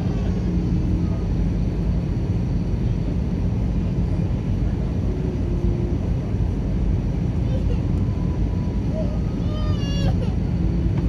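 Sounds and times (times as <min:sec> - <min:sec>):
airliner cabin noise: 0:00.0 - 0:11.0
faint hum: 0:00.0 - 0:11.0.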